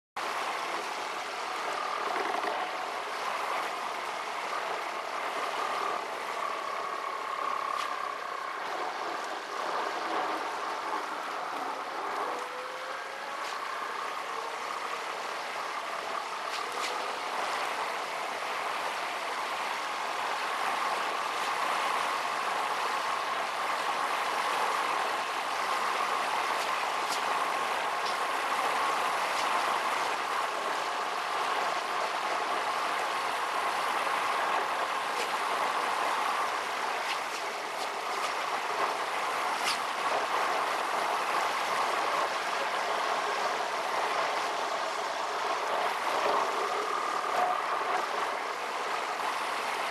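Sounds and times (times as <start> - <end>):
car cabin road noise: 0.2 - 49.9.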